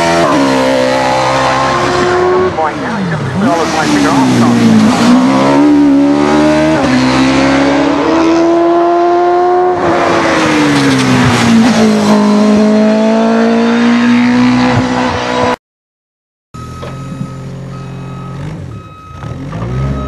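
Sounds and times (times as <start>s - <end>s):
racing engine at high revs: 0.0s - 15.6s, 18.3s - 20.0s.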